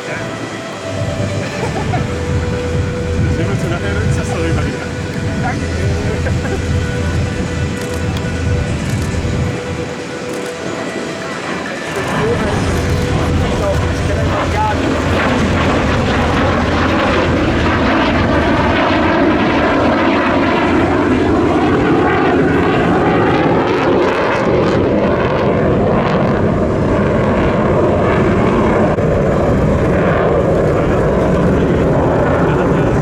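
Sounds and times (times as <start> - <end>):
aircraft engine and air noise: 0.0 - 33.0.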